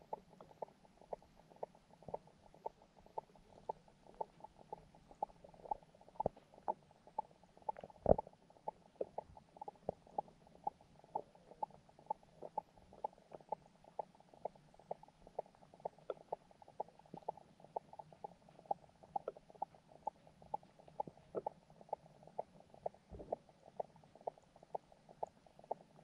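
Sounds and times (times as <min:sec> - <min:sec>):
soft underwater clicks and ticks: 0:00.0 - 0:26.0
underwater low hum: 0:00.0 - 0:26.0.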